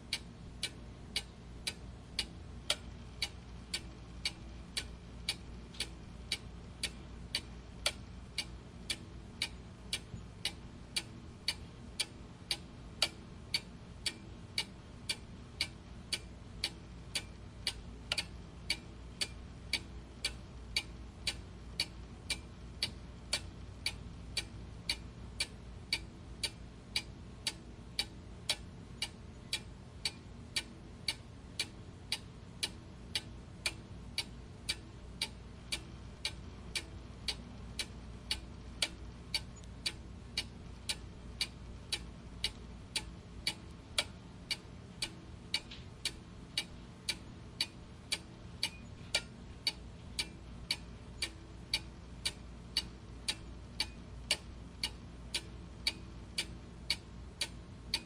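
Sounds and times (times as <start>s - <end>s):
faint low hum: 0.0s - 58.0s
clock ticking: 0.1s - 58.0s.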